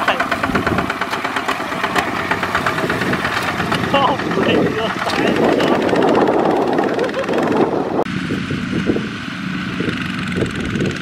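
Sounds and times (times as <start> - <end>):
diesel tractor engines running: 0.0 - 11.0.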